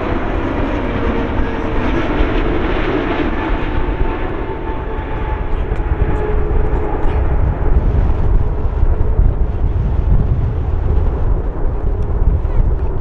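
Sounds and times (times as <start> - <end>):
faint engine whine: 0.0 - 13.0
jet engine rumble: 0.0 - 13.0
wind buffeting microphone: 0.0 - 13.0.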